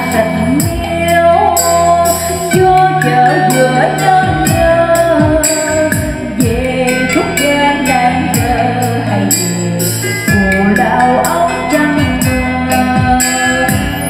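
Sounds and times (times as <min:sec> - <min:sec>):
karaoke backing music: 0:00.0 - 0:14.0
woman singing into microphone: 0:00.0 - 0:14.0.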